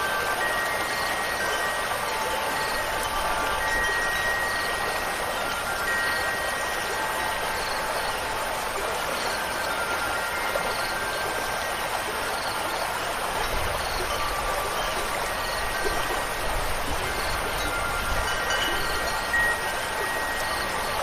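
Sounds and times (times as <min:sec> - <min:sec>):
rushing water: 0:00.0 - 0:21.0
wind chime tones: 0:00.0 - 0:21.0.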